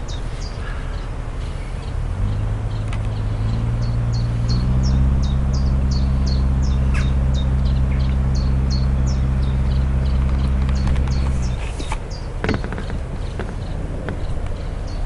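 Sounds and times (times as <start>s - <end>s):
bird chirping: 0.0s - 15.0s
low engine hum: 0.0s - 15.0s.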